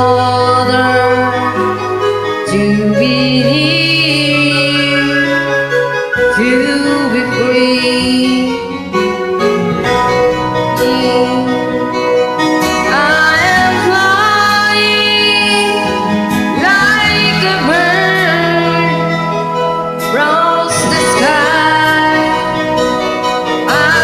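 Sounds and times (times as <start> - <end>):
instrumental backing track: 0.0 - 24.0
person singing karaoke: 0.0 - 24.0.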